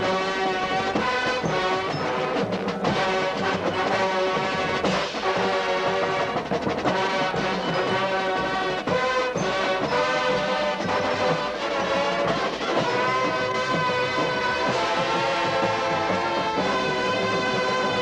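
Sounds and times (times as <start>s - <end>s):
brass chords: 0.0s - 18.0s
drum line strokes: 0.0s - 18.0s.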